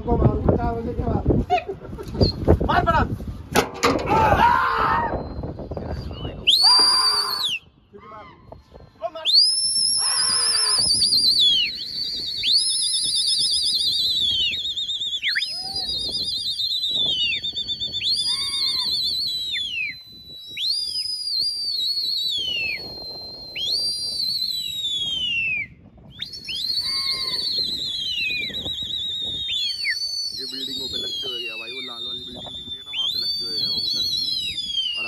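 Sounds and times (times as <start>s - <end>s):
shrill warbling human whistle: 4.6s - 7.7s, 9.2s - 35.0s
long steady whistle: 5.1s - 7.8s, 9.2s - 35.0s.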